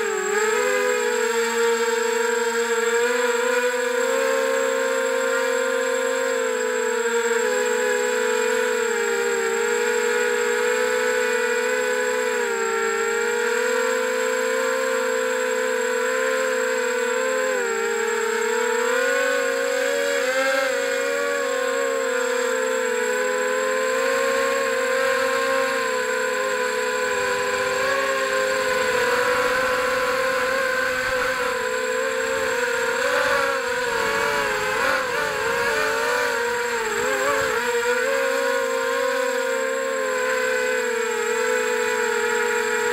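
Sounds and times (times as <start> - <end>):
quadcopter motors whining: 0.0 - 42.9.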